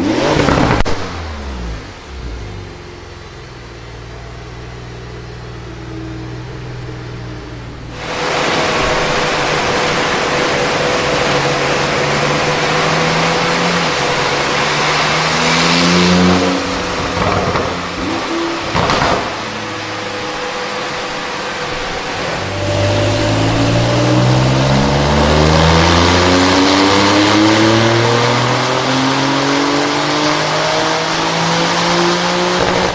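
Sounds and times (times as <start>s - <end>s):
sharp exhaust crack: 0.0s - 27.6s
car engine at full throttle: 0.0s - 32.9s.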